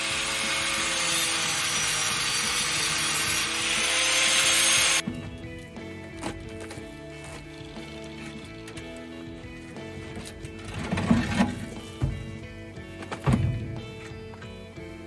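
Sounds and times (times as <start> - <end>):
power tool grinding metal: 0.0 - 14.6
background music: 0.0 - 15.0.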